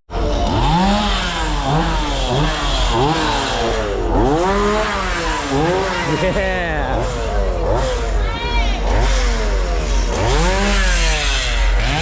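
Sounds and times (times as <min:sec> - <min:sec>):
chainsaw engine revving: 0:00.2 - 0:12.0.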